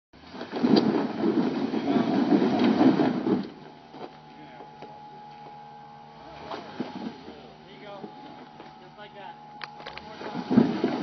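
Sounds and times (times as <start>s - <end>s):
car engine revving: 0.4s - 11.0s.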